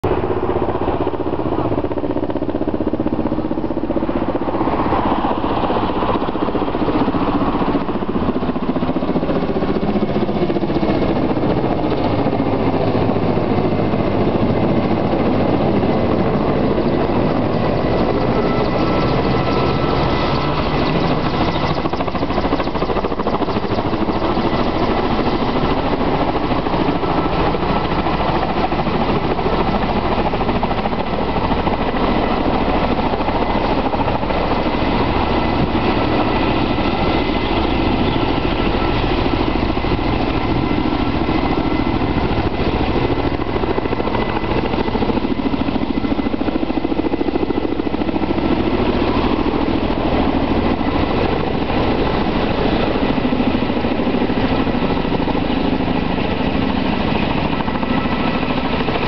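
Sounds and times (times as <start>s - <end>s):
helicopter rotor and turbine noise: 0.0s - 59.0s.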